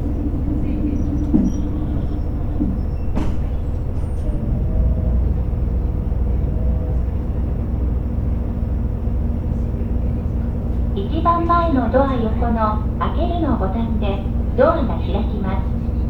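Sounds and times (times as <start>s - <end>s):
railcar interior rumble: 0.0s - 16.0s.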